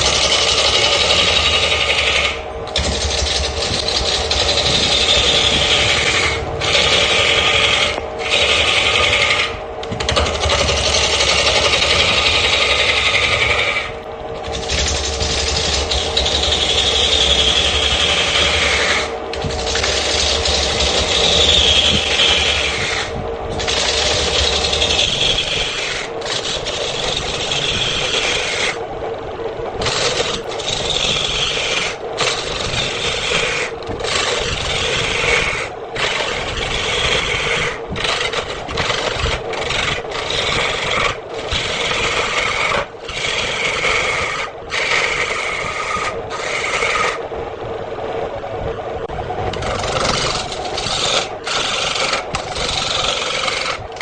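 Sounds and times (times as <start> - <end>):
turning tool scraping wood: 0.0 - 28.9, 29.7 - 47.3, 49.1 - 54.0
wood lathe humming: 0.0 - 48.2, 49.0 - 54.0.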